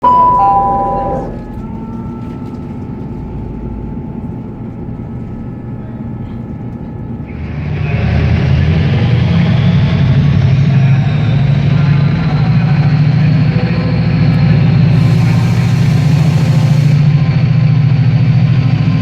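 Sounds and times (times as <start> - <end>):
train hum with whining tones: 0.0 - 19.0
train rumble and hiss: 0.4 - 19.0.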